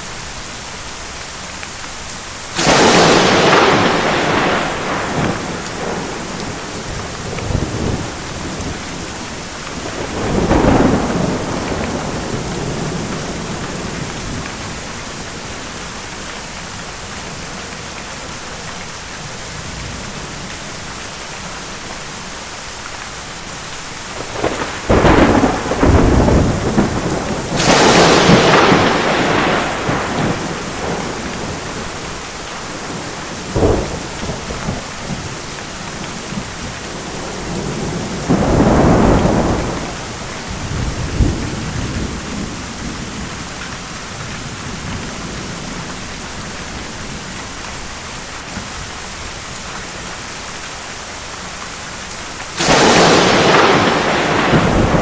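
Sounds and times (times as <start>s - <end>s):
steady rain: 0.0s - 55.0s
rolling thunder: 2.5s - 20.8s, 24.1s - 47.9s, 52.5s - 55.0s.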